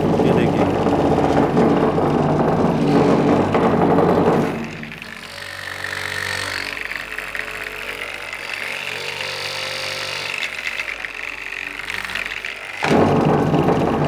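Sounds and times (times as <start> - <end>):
tile vibrator machine humming: 0.0 - 14.0.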